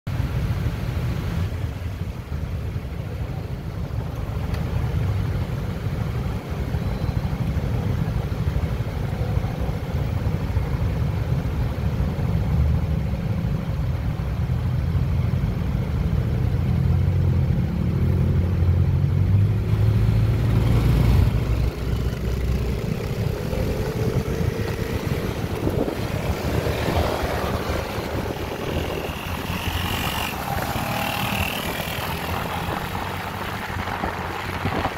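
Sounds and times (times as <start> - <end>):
wind rumble on microphone: 0.1 - 34.9.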